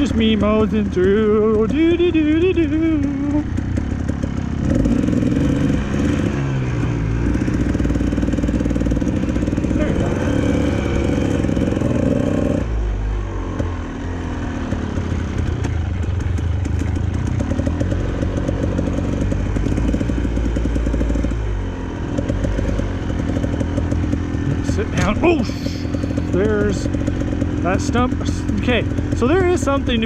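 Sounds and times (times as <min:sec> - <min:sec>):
two-stroke dirt bike engine: 0:00.0 - 0:30.0.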